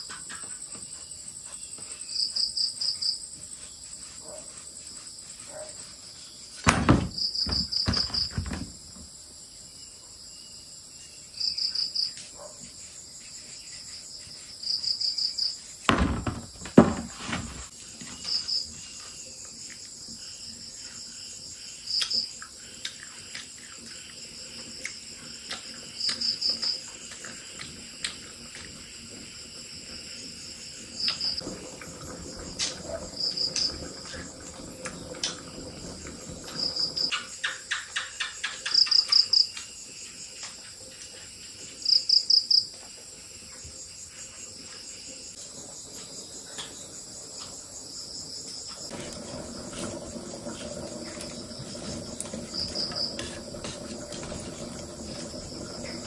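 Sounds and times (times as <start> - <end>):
insects chirping in trills: 0.0 - 56.0.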